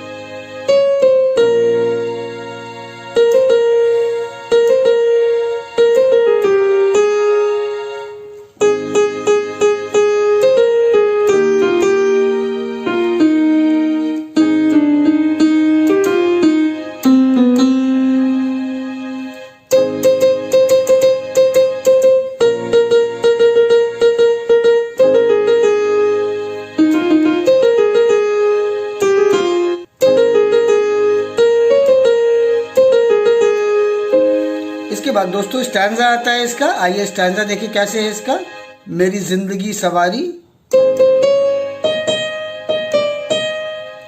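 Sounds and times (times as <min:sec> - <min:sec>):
electronic keyboard melody: 0:00.0 - 0:44.0.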